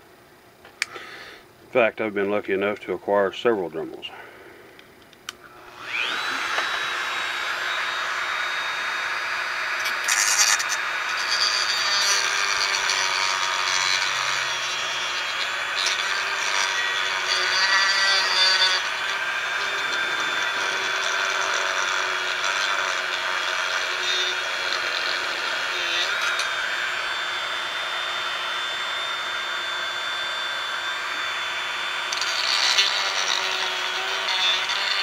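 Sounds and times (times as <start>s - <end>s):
rotary tool grinding: 5.6s - 35.0s.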